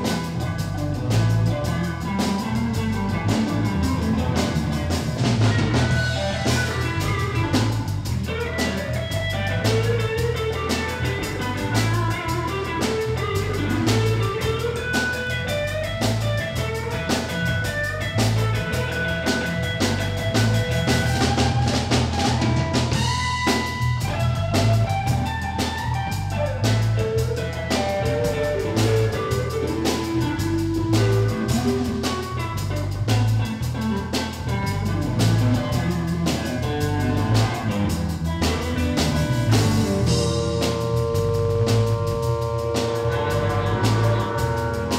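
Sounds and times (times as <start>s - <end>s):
electric guitar lines: 0.0s - 44.9s
pulsing bass guitar: 0.0s - 44.9s
steady drum kit beat: 0.0s - 44.9s.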